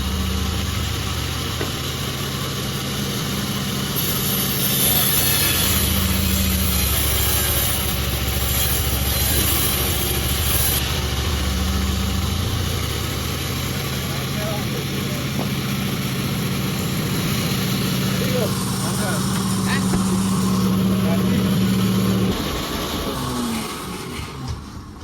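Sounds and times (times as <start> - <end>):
sawmill machinery drone: 0.0 - 25.0.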